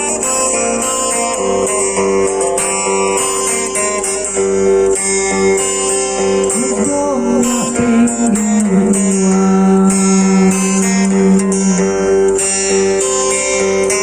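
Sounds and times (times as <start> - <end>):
acoustic guitar picked and strummed: 0.0 - 14.0.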